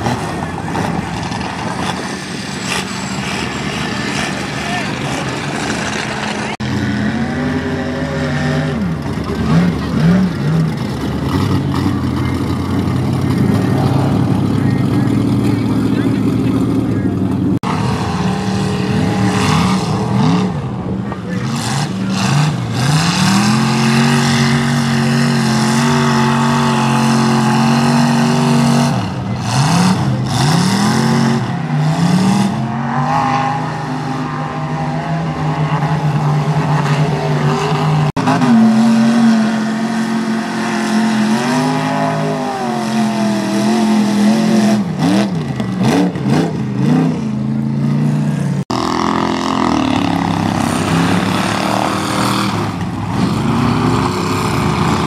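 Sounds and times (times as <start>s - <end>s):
truck engine revving high: 0.0s - 55.0s.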